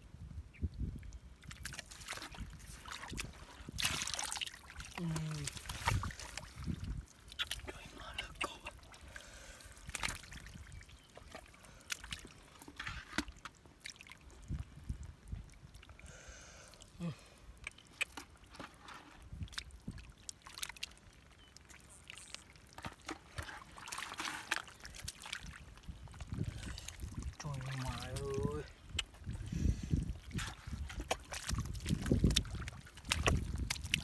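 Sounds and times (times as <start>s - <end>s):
small splashes and wet slaps: 1.4s - 9.0s, 9.8s - 14.6s, 17.6s - 18.7s, 19.3s - 29.4s, 30.0s - 34.0s
hands squelching through mud: 1.4s - 16.0s, 16.8s - 34.0s.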